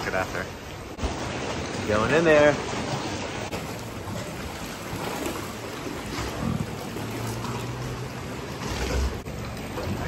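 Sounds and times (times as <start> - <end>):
sea water lapping against rock: 0.7 - 10.0.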